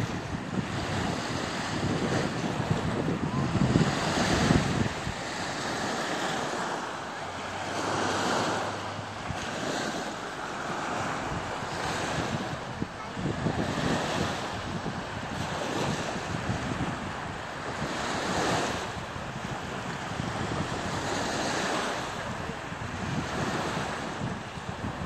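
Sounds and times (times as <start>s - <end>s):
waves lapping on sandy beach: 0.0s - 25.0s
wind buffeting microphone: 0.0s - 25.0s.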